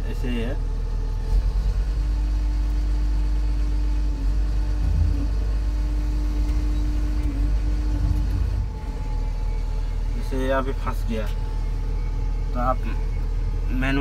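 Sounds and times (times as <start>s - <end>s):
crane engine running: 0.0s - 14.0s
hydraulic whine: 0.0s - 14.0s.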